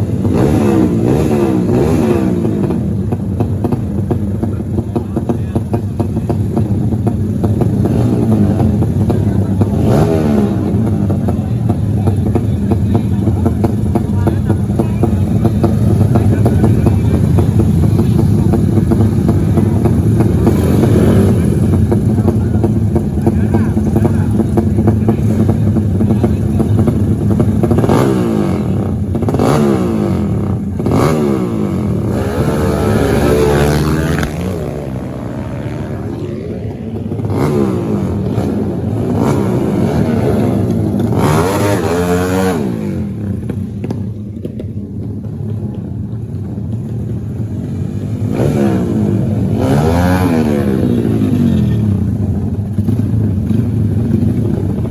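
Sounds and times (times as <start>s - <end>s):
motorcycle engine running loudly: 0.0s - 54.9s.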